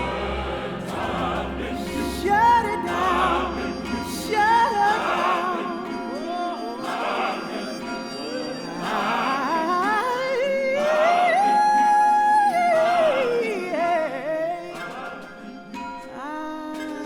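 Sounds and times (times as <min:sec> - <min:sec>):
orchestra and choir: 0:00.0 - 0:17.0
solo classical singing: 0:00.0 - 0:17.0.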